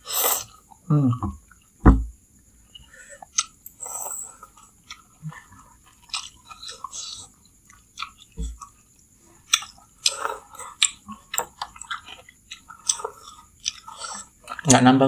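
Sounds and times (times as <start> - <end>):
people chewing: 2.7 - 15.0.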